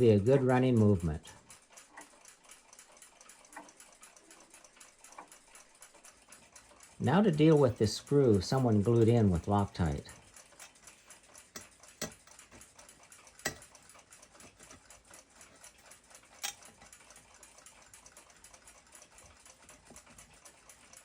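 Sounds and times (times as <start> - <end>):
clock ticking rapidly: 0.0 - 21.0.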